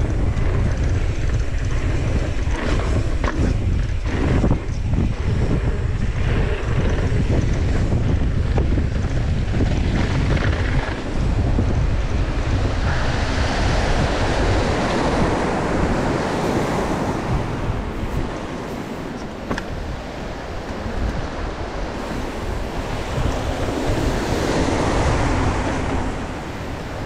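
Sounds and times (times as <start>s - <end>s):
tyres rumbling over dirt: 0.0s - 27.0s
wind buffeting microphone: 0.0s - 27.0s.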